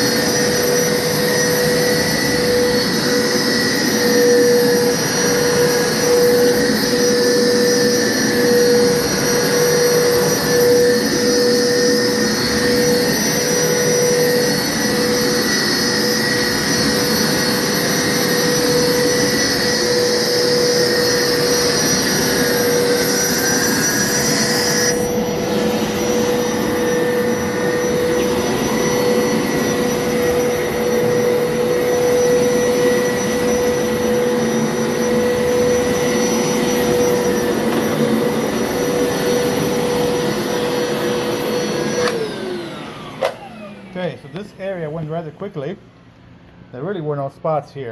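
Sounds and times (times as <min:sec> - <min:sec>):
carpet washer motor whine: 0:00.0 - 0:45.4
carpet washer high hiss: 0:00.0 - 0:45.8.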